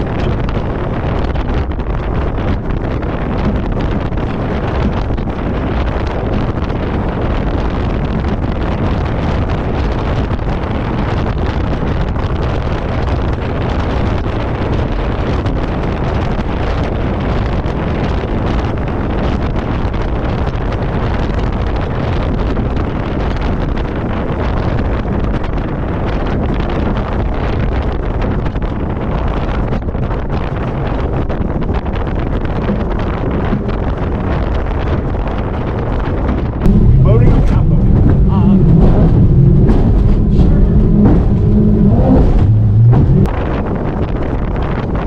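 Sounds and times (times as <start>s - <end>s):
boat running on water: 0.0s - 45.0s
wind buffeting microphone: 0.0s - 45.0s.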